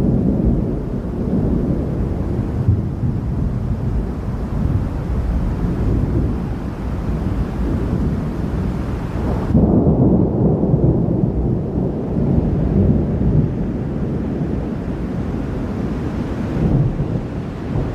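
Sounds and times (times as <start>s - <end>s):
thunder rumbling: 0.0s - 17.9s.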